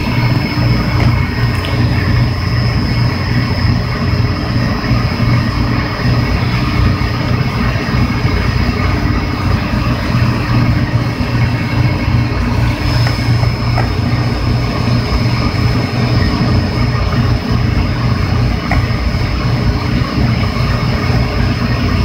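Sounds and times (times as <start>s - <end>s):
low hum with rushing noise: 0.0s - 22.0s
thin high whine: 0.0s - 22.0s.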